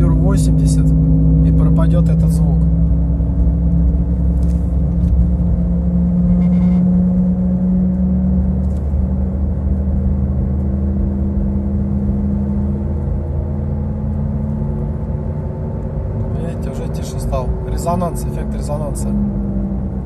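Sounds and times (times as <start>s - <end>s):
road rumble: 0.0s - 20.0s
wheel bearing humming drone: 0.0s - 20.0s.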